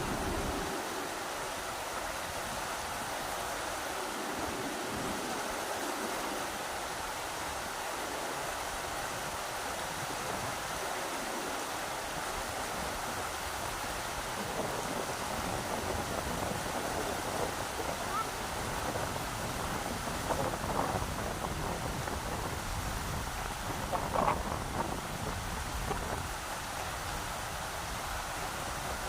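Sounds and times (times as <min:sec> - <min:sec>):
rushing river water: 0:00.0 - 0:29.0.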